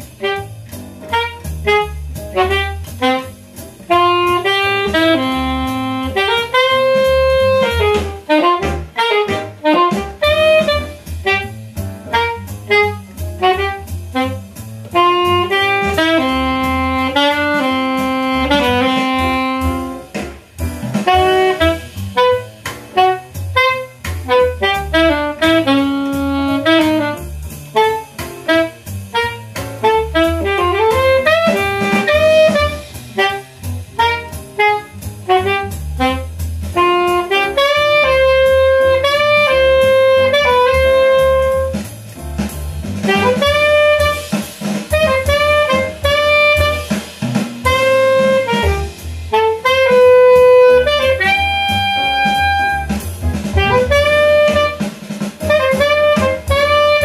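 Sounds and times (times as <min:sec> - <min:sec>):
alto saxophone jazz melody: 0:00.0 - 0:57.0
backing track with bass line: 0:00.0 - 0:57.0.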